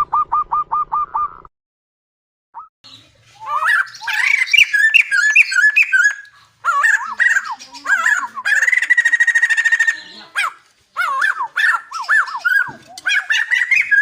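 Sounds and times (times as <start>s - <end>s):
songbird singing: 2.6s - 14.0s.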